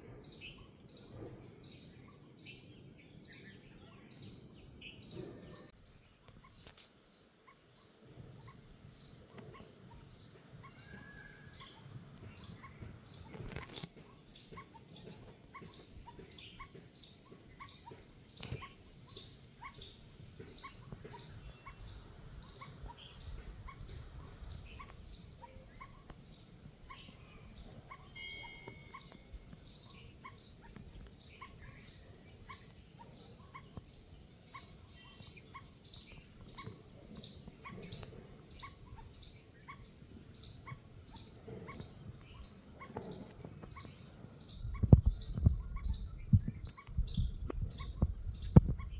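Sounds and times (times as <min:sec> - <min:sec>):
bird calling: 0:00.0 - 0:48.9.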